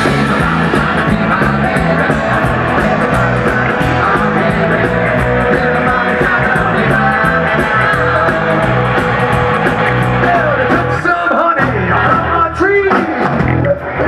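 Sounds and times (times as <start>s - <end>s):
rock song with singing: 0.0s - 14.0s.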